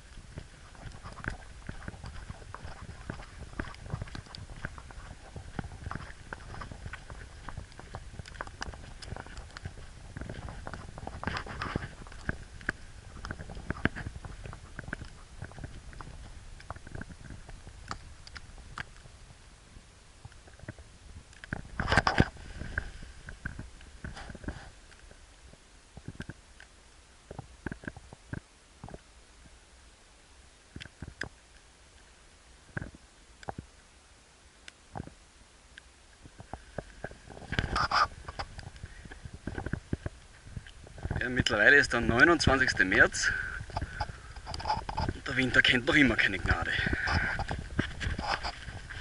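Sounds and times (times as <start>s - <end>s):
wet snow ticking on housing: 0.0s - 29.6s, 34.6s - 49.0s
faint steady background noise: 0.0s - 49.0s.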